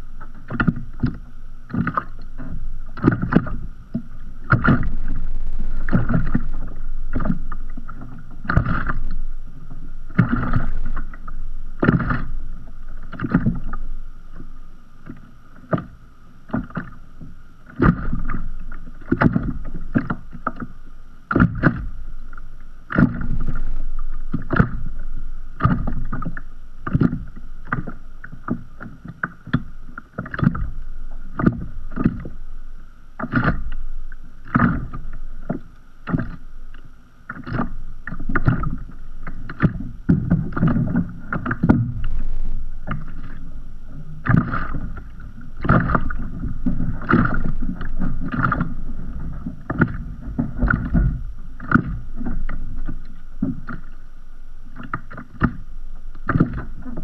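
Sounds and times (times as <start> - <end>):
waves slapping against kayak hull: 0.2 - 20.7, 21.3 - 21.9, 22.9 - 32.4, 33.2 - 33.8, 34.4 - 54.0, 54.6 - 57.0.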